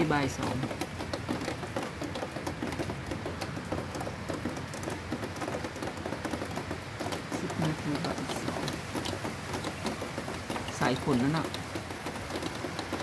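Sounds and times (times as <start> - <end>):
rain drops pattering: 0.0 - 13.0.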